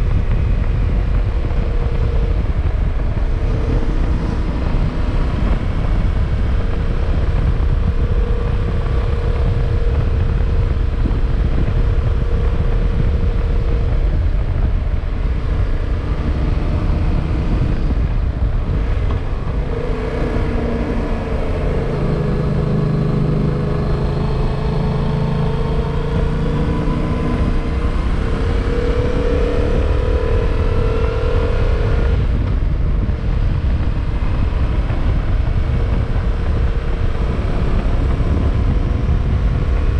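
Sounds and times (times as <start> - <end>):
motorcycle engine pulling uphill: 0.0 - 39.9
wind buffeting on microphone: 0.0 - 39.9.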